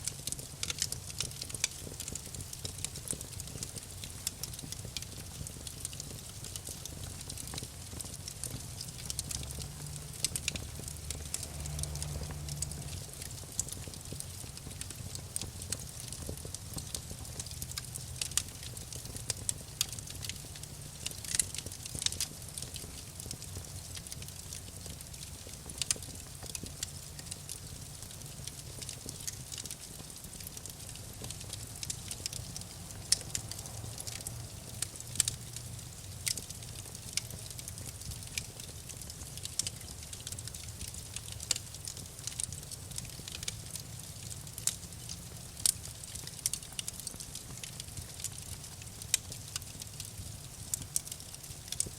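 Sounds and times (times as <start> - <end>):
campfire pops and snaps: 0.0 - 51.9
low rumble of flames: 0.0 - 51.9.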